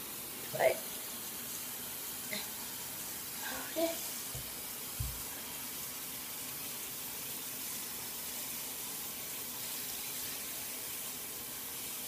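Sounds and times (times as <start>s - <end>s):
tap water running into a sink: 0.0s - 12.0s.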